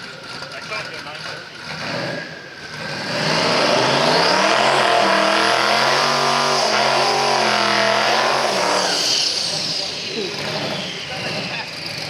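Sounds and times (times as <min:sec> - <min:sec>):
car engine revving hard: 0:01.2 - 0:12.0.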